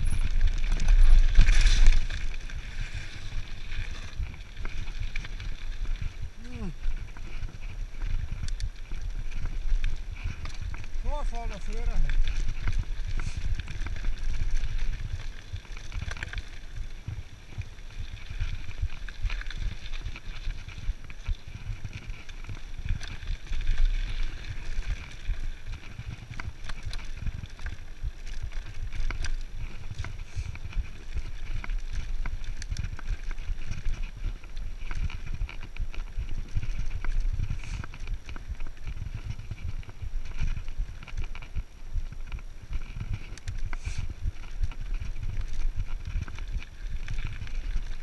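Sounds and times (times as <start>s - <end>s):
bike rattling and clicking: 0.0s - 48.0s
tyres crunching over stones: 0.0s - 48.0s
wind rumble on microphone: 0.0s - 48.0s.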